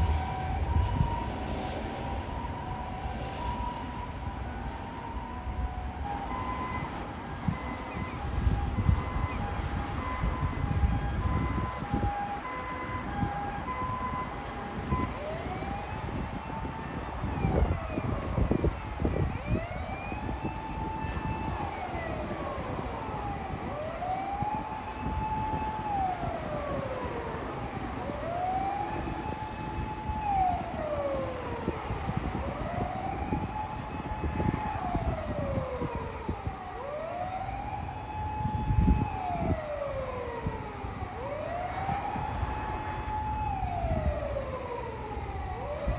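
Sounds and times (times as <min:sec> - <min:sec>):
passing traffic: 0:00.0 - 0:45.9
two-tone siren: 0:00.0 - 0:45.9
wailing siren: 0:00.0 - 0:45.9.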